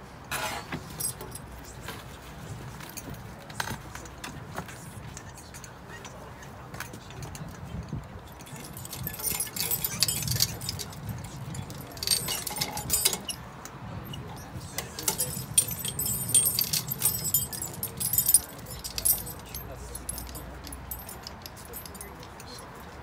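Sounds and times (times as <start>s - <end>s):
light clinking and rustling: 0.3s - 23.0s.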